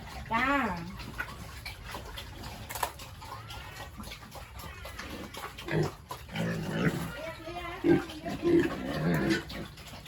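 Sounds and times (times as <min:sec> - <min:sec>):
farm animals calling: 0:00.0 - 0:10.0.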